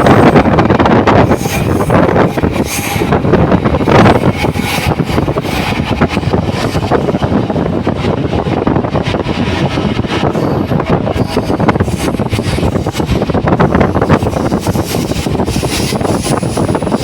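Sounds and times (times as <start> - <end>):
train rumble and rattle: 0.0 - 17.0.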